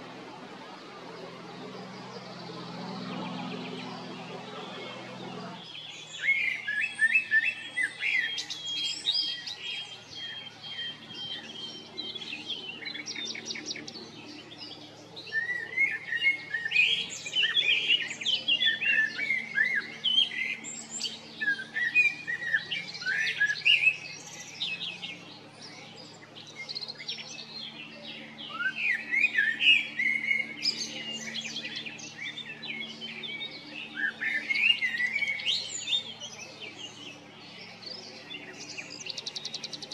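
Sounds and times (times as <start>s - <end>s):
small birds chirping and trilling: 0.0s - 39.9s
blackbird singing: 1.2s - 39.9s.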